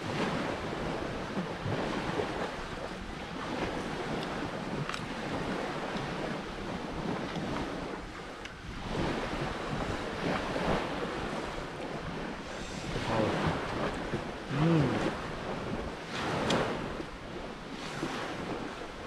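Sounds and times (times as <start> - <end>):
surf washing on a beach: 0.0 - 19.0
wind rushing over microphone: 0.0 - 19.0.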